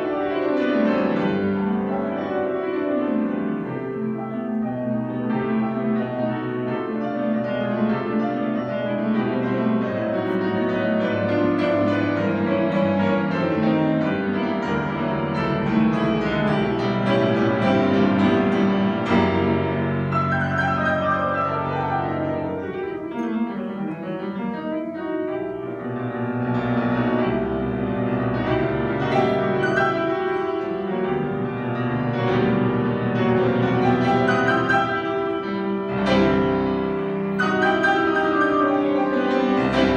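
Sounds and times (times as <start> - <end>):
solo piano classical music: 0.0 - 39.9.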